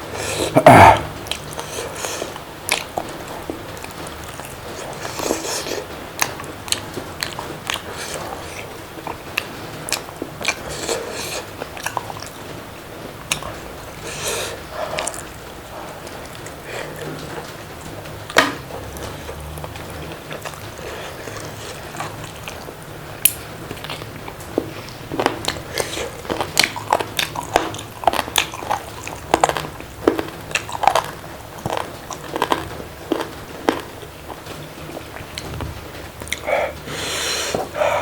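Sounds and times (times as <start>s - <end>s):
person crunchy chewing: 0.0s - 12.4s, 13.2s - 17.5s, 18.3s - 35.4s.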